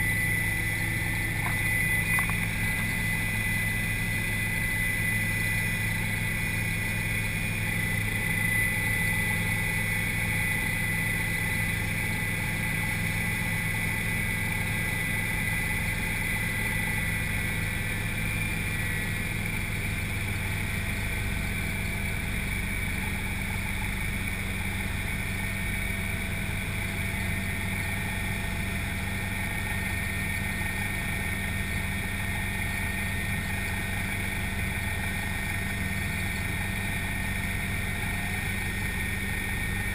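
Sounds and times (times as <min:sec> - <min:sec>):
helicopter cabin drone: 0:00.0 - 0:39.9
high mechanical whine: 0:00.0 - 0:39.9.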